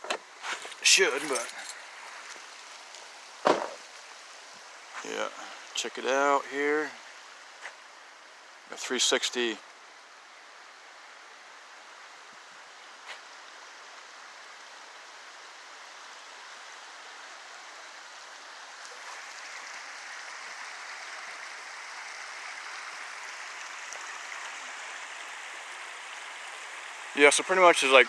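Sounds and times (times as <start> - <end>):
stream rushing: 0.0 - 28.0.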